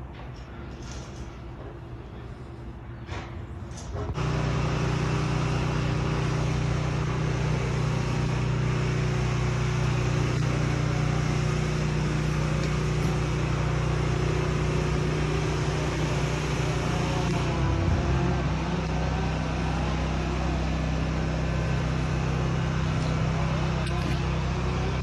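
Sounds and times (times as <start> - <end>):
machine motor humming: 4.0 - 25.0.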